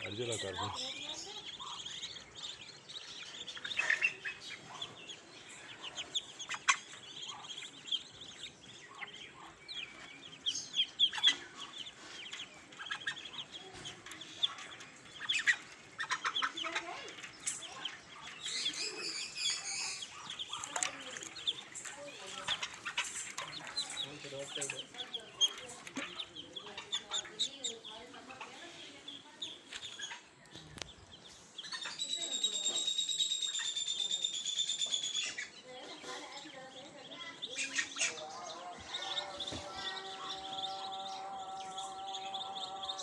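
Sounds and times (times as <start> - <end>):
ducklings peeping: 0.0 - 43.0.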